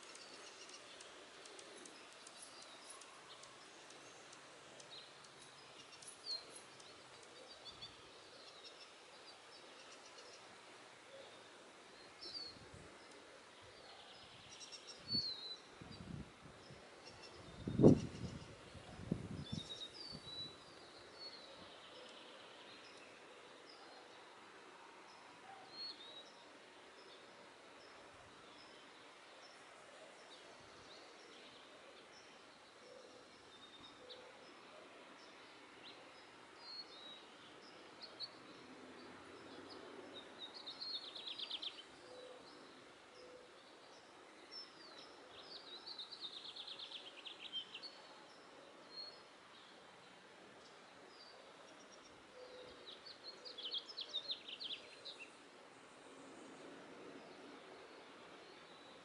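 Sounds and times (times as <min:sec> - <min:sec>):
small birds chirping: 0:00.0 - 0:55.5.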